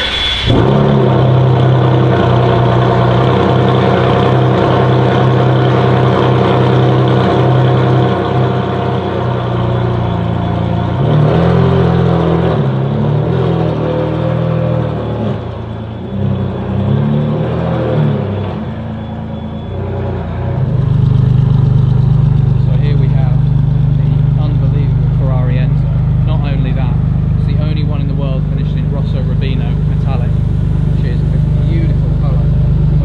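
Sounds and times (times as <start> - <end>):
loud car engine drone: 0.0 - 33.0.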